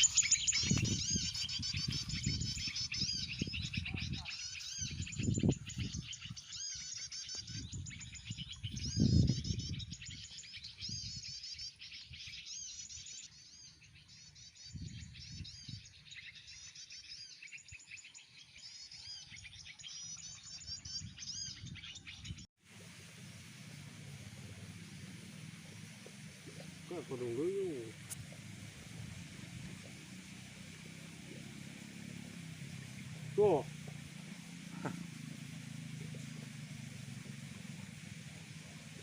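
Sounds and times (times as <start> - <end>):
small birds chirping: 0.0 - 22.5, 23.2 - 39.0.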